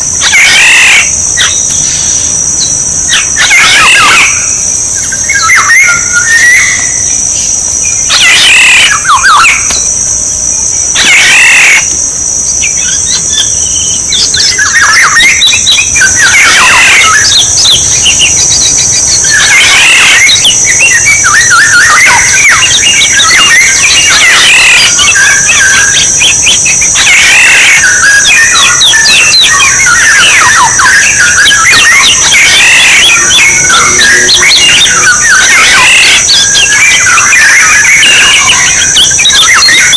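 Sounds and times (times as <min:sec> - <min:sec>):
oriole calls: 0:00.0 - 0:39.9
steady high buzz: 0:00.0 - 0:39.9.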